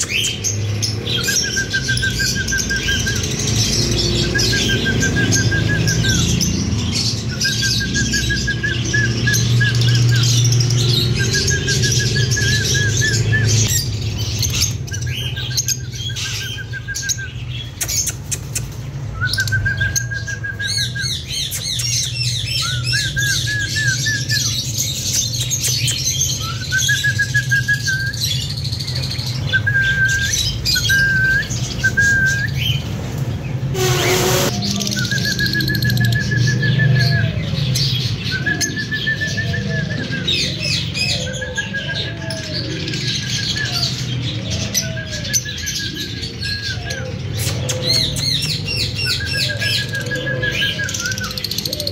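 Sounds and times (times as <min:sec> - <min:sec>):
lovebirds chirping and squawking: 0:00.0 - 0:51.9.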